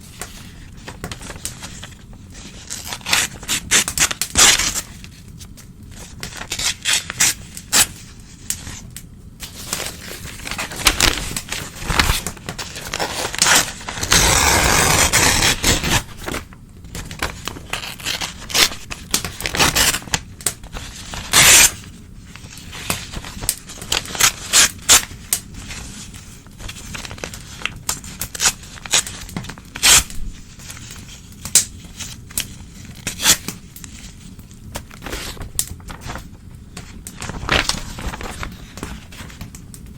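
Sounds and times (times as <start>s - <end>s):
newspaper tearing: 0.2s - 5.2s, 5.9s - 8.8s, 9.4s - 31.4s, 32.0s - 34.2s, 34.8s - 36.3s, 37.1s - 39.4s.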